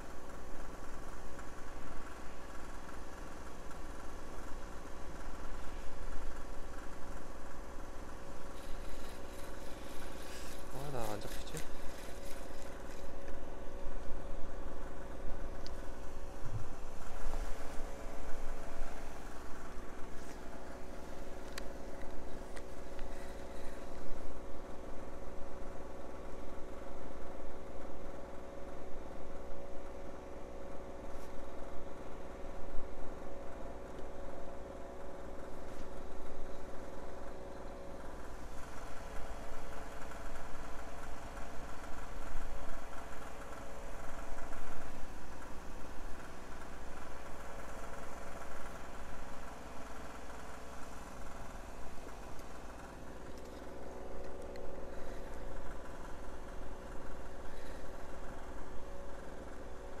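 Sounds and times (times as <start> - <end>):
generator engine hum: 0.0 - 60.0.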